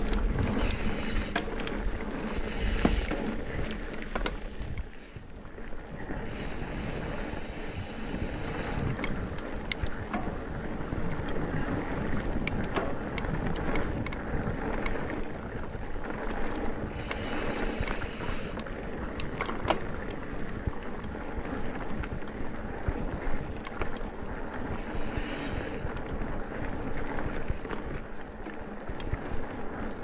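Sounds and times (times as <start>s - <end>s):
bike rattles and clicks: 0.0s - 30.0s
tyres rolling on dirt trail: 0.0s - 30.0s
wind on microphone: 0.0s - 30.0s.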